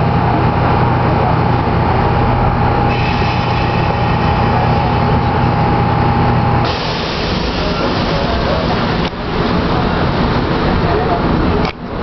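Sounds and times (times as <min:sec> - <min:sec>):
train equipment high whine: 0:00.0 - 0:12.0
train equipment low hum: 0:00.0 - 0:12.0.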